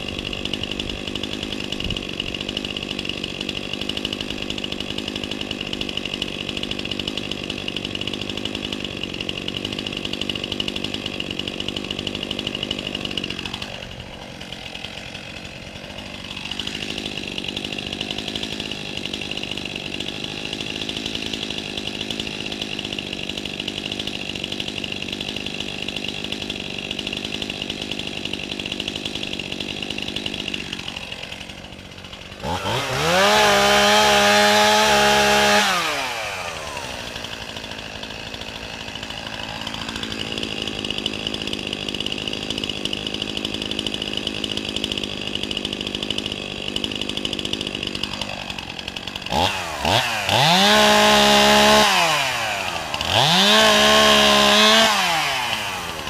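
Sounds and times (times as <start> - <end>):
chainsaw engine idling and revving: 0.0 - 56.0.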